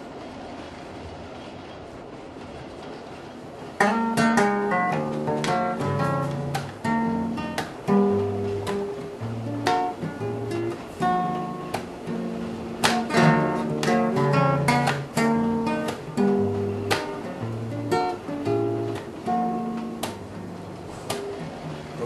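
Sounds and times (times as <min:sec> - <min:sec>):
acoustic guitar music: 0:03.7 - 0:22.0.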